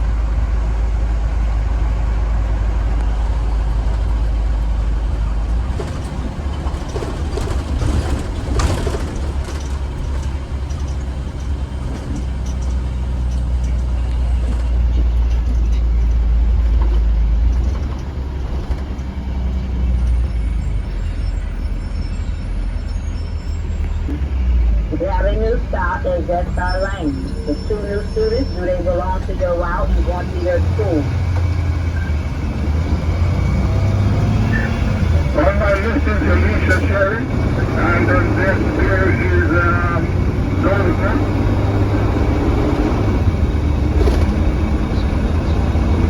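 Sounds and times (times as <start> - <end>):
bus engine and road rumble: 0.0 - 46.0.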